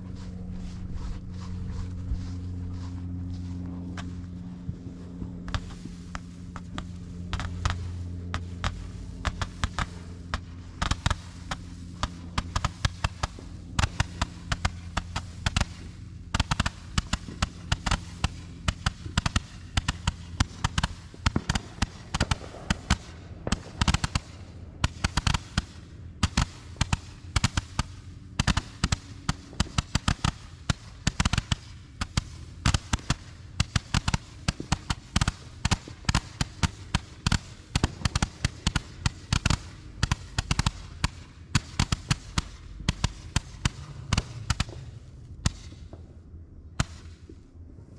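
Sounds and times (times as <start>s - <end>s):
fireworks crackling: 5.4s - 47.4s.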